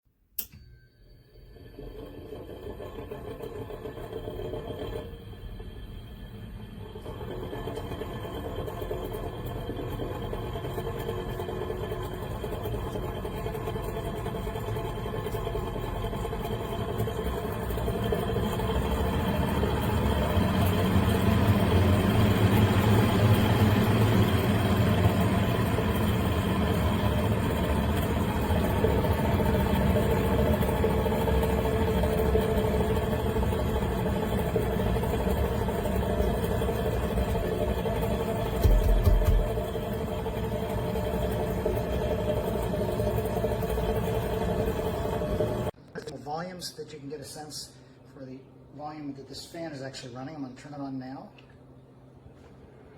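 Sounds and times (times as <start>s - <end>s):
mechanical running noise with hum: 0.4s - 52.9s.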